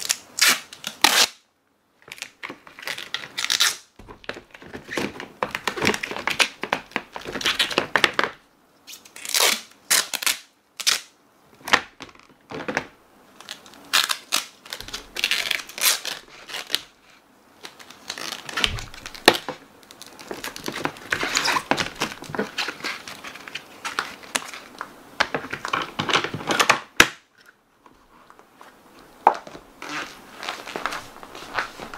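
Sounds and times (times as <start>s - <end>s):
packing tape ripping and crinkling: 0.0s - 1.4s, 2.0s - 27.5s, 29.4s - 31.9s.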